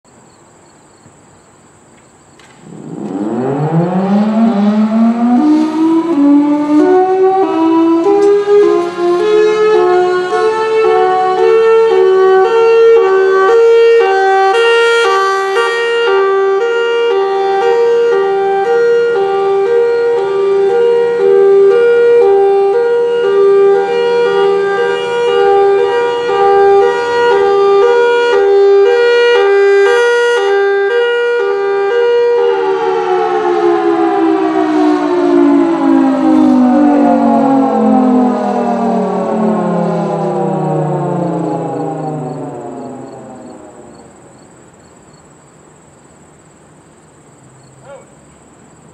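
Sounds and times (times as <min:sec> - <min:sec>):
mechanical siren hi-lo wail: 0:02.6 - 0:44.8.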